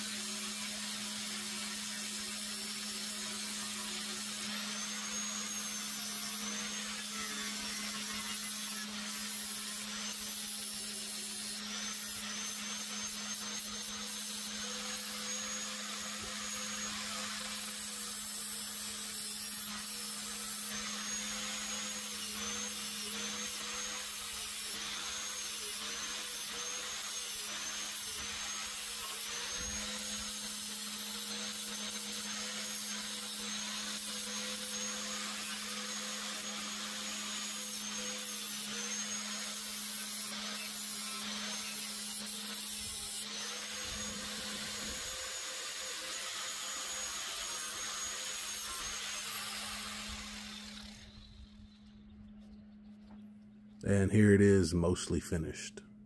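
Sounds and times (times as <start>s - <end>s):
angle grinder grinding metal: 0.0s - 51.5s.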